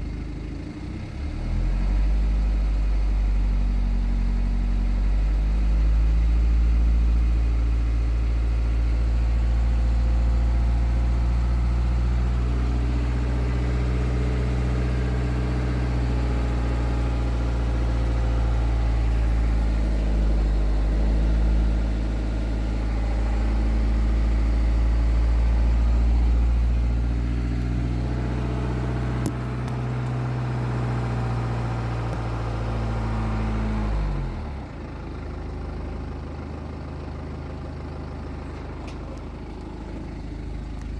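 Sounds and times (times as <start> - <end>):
diesel engine idling: 0.0 - 40.9
engine running down: 0.0 - 40.9.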